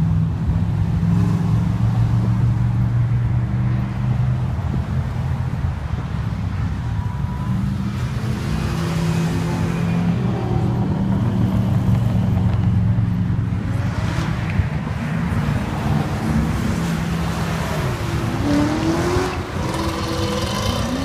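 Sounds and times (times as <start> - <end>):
car engines rumbling: 0.0 - 21.0.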